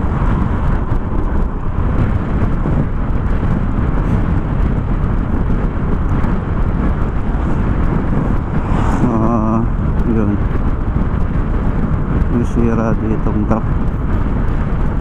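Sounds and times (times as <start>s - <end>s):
scooter riding noise: 0.0s - 15.0s
wind buffeting microphone: 0.0s - 15.0s.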